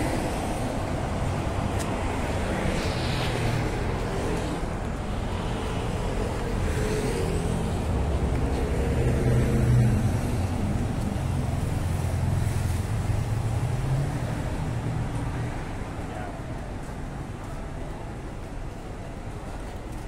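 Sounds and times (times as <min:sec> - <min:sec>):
cars driving past: 0:00.0 - 0:17.3.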